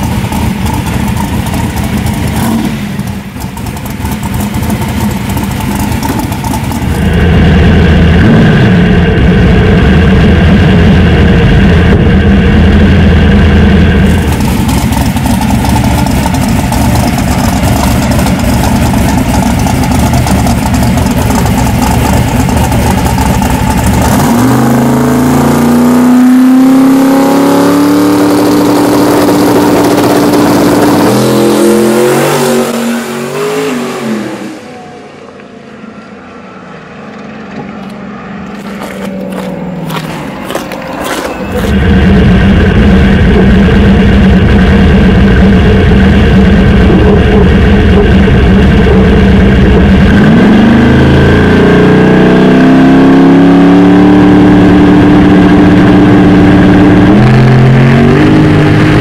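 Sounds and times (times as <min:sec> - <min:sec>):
pickup truck engine revving: 0:00.0 - 0:35.3, 0:36.0 - 0:59.0.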